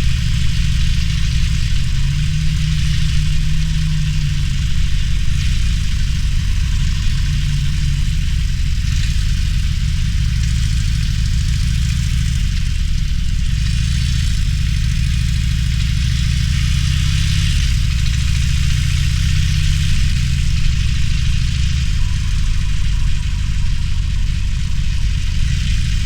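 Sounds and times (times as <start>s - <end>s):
motorcycle engine running: 0.0s - 26.0s
steady hiss: 0.0s - 26.0s.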